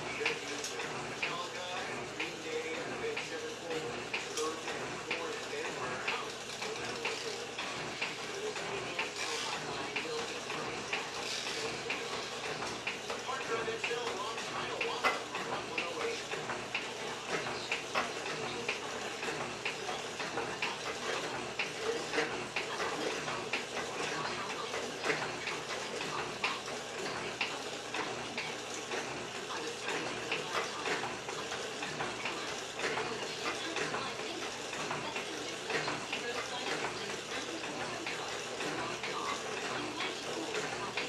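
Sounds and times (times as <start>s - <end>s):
metal shaper running with clicks: 0.0s - 41.0s.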